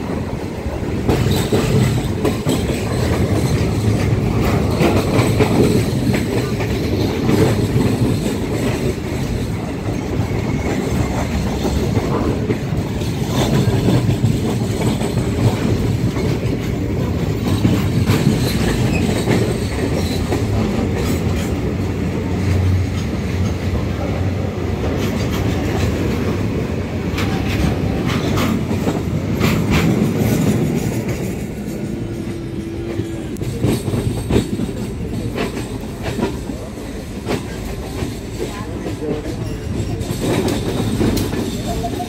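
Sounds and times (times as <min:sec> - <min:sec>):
passing goods train rumble: 0:00.0 - 0:42.0
train wheels clickety-clack: 0:00.0 - 0:42.0.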